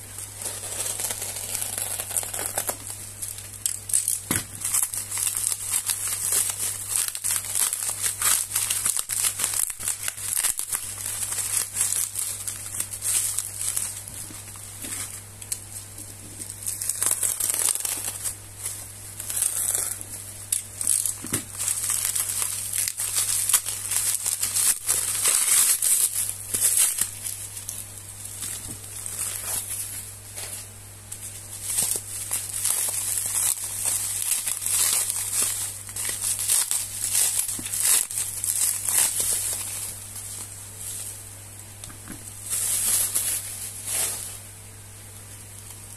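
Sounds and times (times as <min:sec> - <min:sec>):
plastic packaging crinkling: 0:00.1 - 0:45.9.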